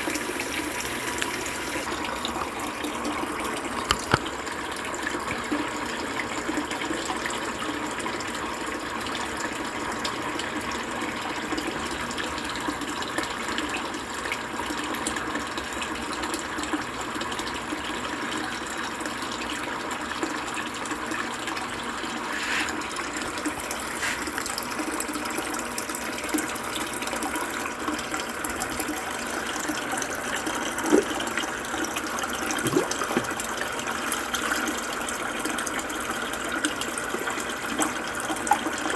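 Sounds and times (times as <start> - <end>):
water rushing in washing machine: 0.0 - 38.9.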